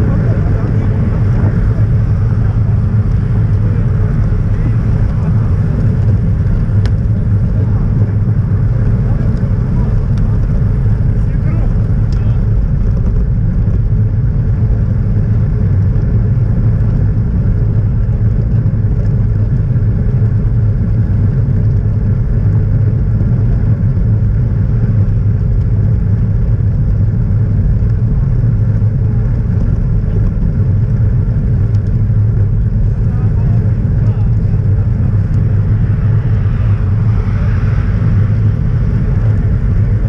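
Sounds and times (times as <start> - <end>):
bicycle tyres rolling on tarmac: 0.0 - 40.0
wind buffeting microphone: 0.0 - 40.0.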